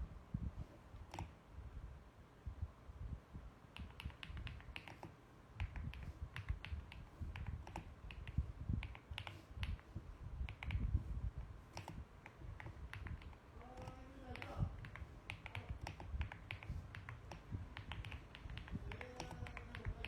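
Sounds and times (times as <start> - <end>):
mechanical keyboard typing: 1.0 - 1.3, 3.7 - 20.0.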